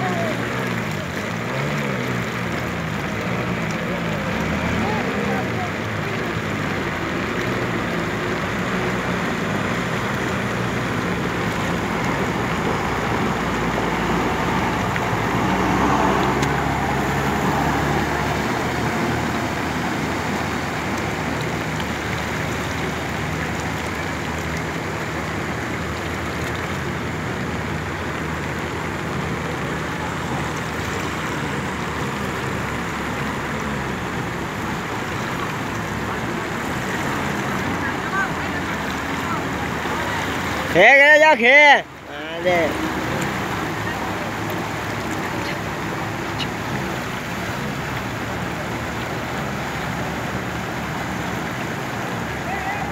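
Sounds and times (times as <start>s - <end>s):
flowing floodwater: 0.0s - 52.9s
heavy rain: 0.0s - 52.9s.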